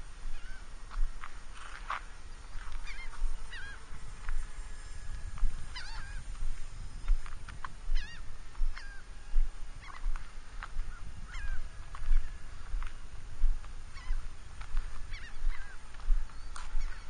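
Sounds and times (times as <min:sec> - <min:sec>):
birds calling: 0:00.0 - 0:17.0
wind rumble on microphone: 0:00.0 - 0:17.0.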